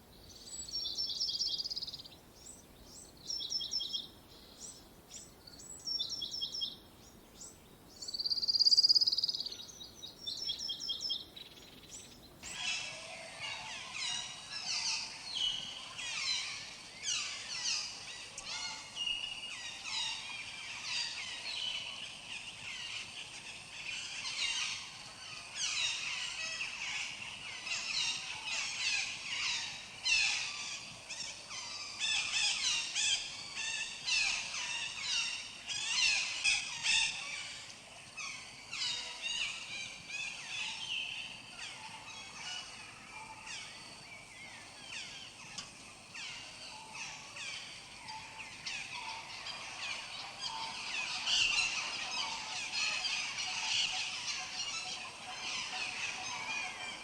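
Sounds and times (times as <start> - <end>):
birds calling with whistles and trills: 0.0 - 57.0
dense chorus of birds chirping: 0.0 - 57.0.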